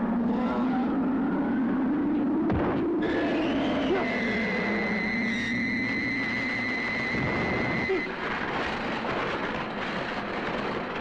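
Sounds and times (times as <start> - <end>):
rushing storm wind: 0.0 - 11.0.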